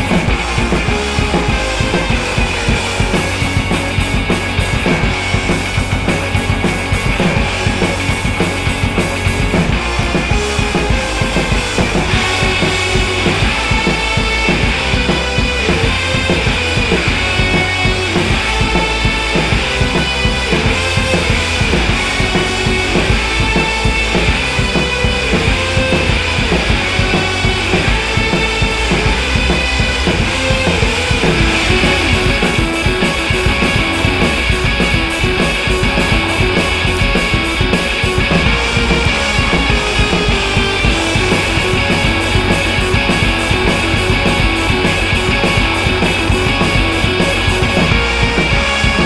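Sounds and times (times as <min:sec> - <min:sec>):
rock music: 0:00.0 - 0:49.0.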